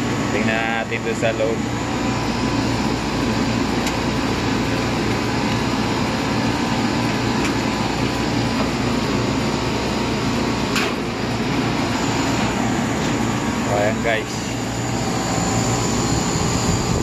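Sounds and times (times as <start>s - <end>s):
condensing unit running: 0.0s - 17.0s.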